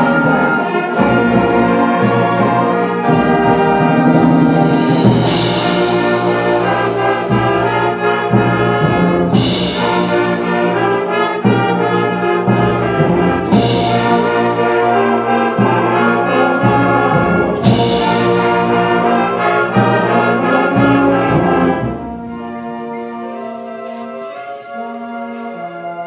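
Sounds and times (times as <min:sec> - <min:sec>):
symphonic band playing chords: 0:00.0 - 0:26.0.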